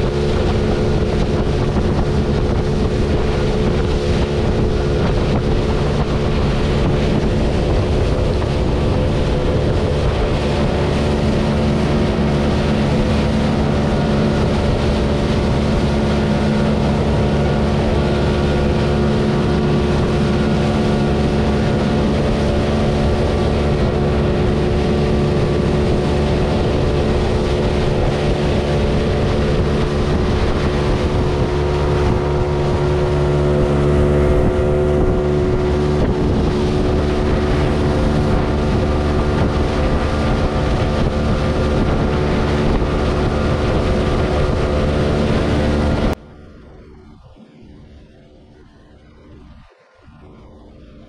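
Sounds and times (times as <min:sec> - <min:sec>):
boat motor running: 0:00.0 - 0:51.0
wind buffeting microphone: 0:00.0 - 0:51.0.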